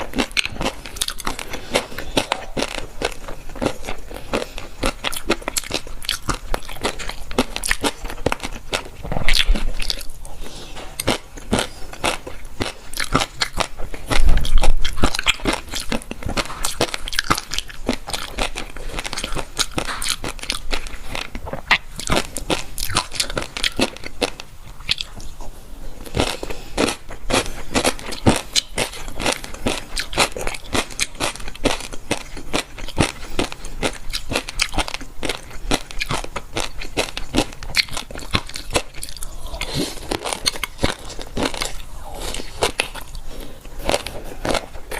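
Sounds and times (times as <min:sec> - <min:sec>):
crunching and chewing crisp food: 0:00.0 - 0:44.9.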